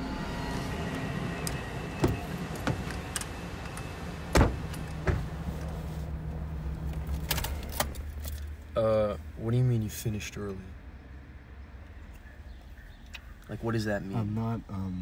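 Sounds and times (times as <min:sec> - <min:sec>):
street ambience rumble: 0:00.0 - 0:15.0.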